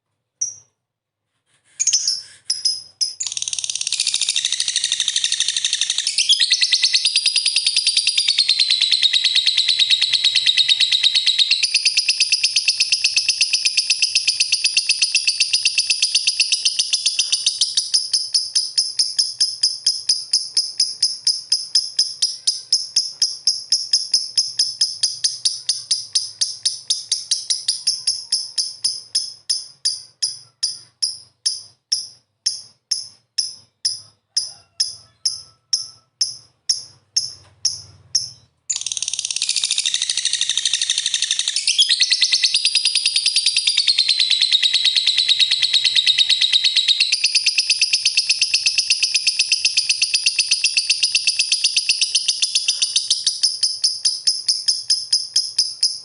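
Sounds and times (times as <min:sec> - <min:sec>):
lovebird chattering trill: 0:01.8 - 0:56.0.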